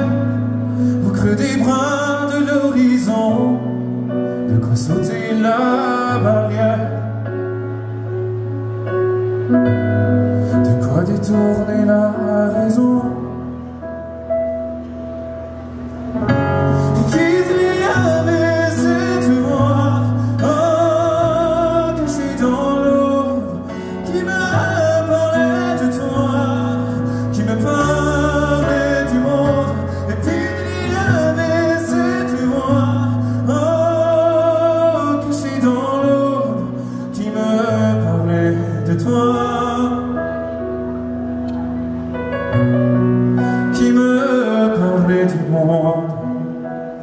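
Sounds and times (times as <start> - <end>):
man singing with vibrato: 0.0 - 7.4, 10.5 - 13.6, 16.7 - 40.6, 43.4 - 46.8.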